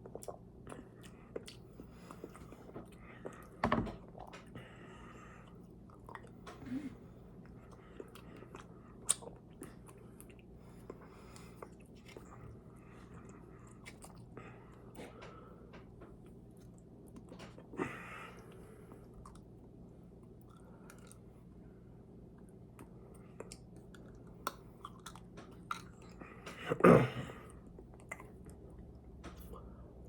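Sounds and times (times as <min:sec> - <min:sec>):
person chewing food: 0:00.0 - 0:06.6, 0:07.3 - 0:21.4, 0:22.3 - 0:30.0
faint low hum: 0:00.0 - 0:30.0.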